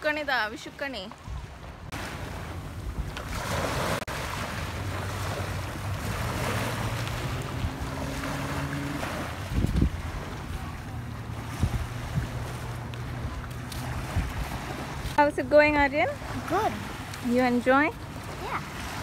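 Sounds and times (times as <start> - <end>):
small waves washing up a ramp: 0.1 - 19.0
wind buffeting microphone: 1.2 - 19.0.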